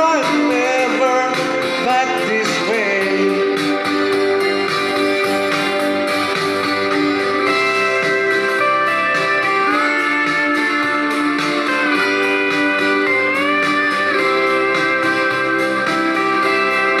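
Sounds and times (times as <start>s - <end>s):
steel guitar melody: 0.0s - 17.0s
strummed guitar chords: 0.0s - 17.0s.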